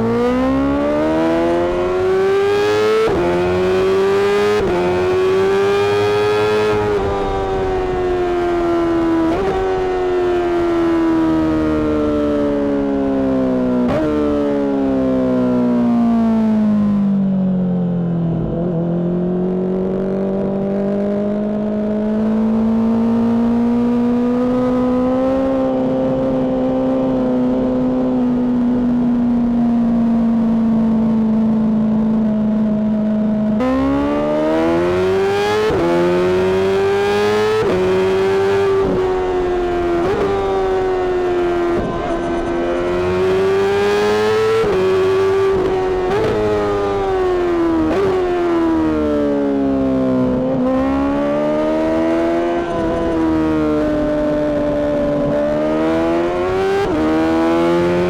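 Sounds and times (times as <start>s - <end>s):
motorcycle engine revving through gears: 0.0s - 58.0s.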